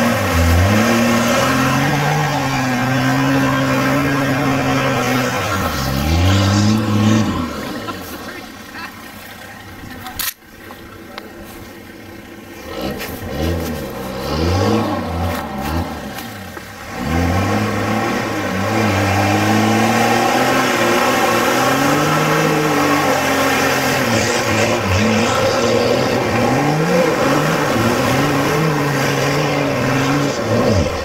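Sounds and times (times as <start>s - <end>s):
engine revving and accelerating: 0.0s - 8.0s, 12.5s - 31.0s.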